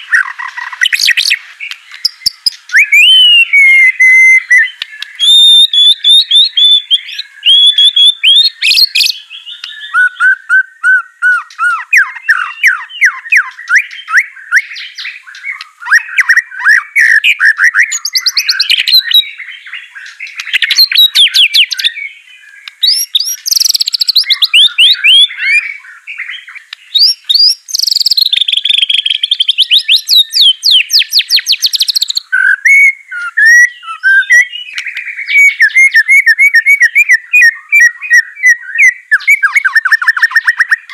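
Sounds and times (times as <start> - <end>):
songbird whistling and trilling: 0.0 - 40.9.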